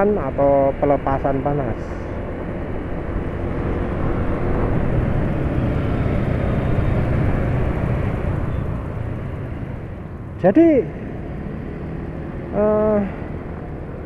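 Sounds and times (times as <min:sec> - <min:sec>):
motorcycles and cars in traffic: 0:00.0 - 0:14.0.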